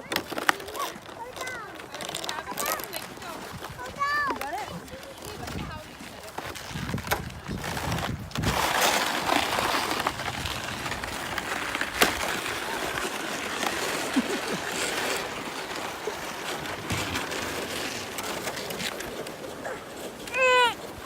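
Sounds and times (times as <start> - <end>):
sled sliding on snow: 0.0 - 21.0.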